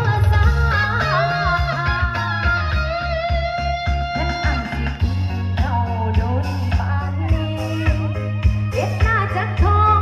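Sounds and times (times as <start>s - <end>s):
heavy bass beat: 0.0s - 10.0s.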